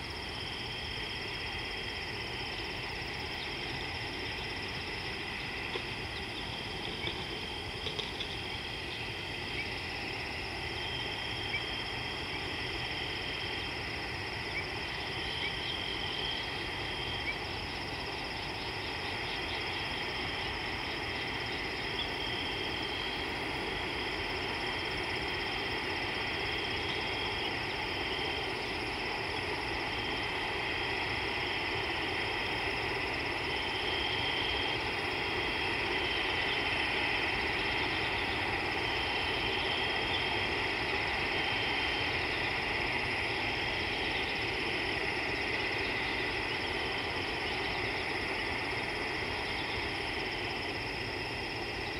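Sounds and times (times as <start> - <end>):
insect chorus chirring: 0.0 - 51.9.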